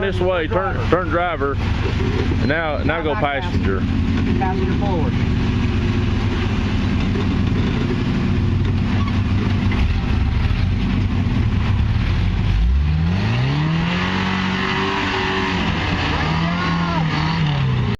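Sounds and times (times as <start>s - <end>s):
vehicle engine revving: 0.0s - 17.9s.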